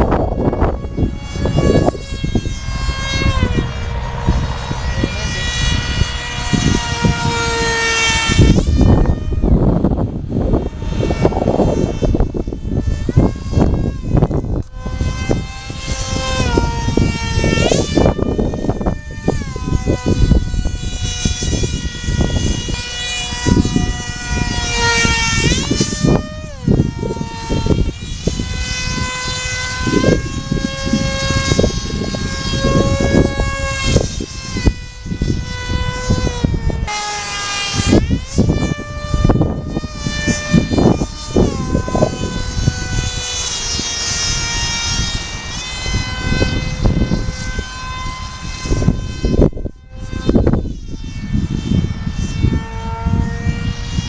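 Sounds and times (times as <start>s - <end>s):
model jet motor whining: 0.0s - 54.0s
wind buffeting microphone: 0.0s - 54.0s.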